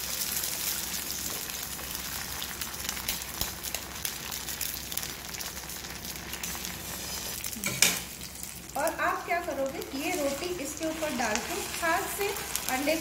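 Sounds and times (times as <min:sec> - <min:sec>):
egg sizzling in hot oil: 0:00.0 - 0:13.0.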